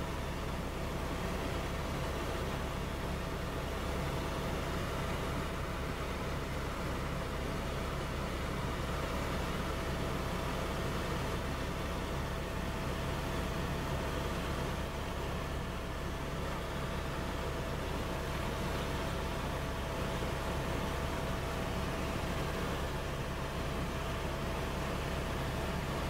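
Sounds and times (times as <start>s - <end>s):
helicopter rotor and engine drone: 0.0s - 26.0s.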